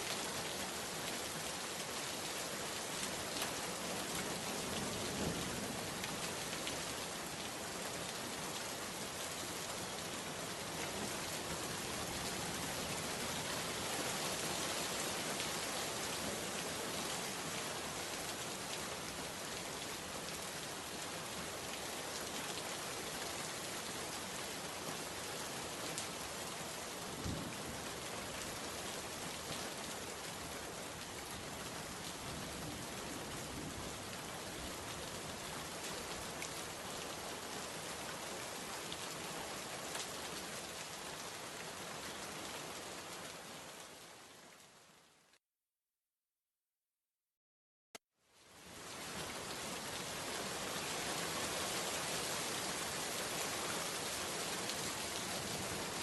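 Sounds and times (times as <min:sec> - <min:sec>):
steady rain falling: 0:00.0 - 0:45.4, 0:48.2 - 0:56.0.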